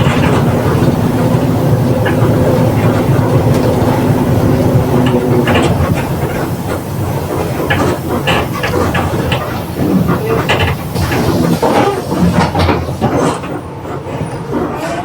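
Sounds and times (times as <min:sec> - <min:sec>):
differential whine: 0:00.0 - 0:12.9
bus drivetrain drone: 0:00.0 - 0:15.0.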